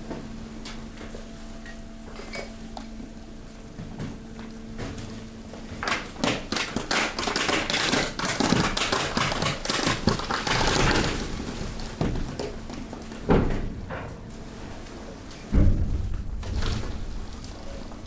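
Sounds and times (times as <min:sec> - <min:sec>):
hydraulic power unit hum: 0:00.0 - 0:18.0.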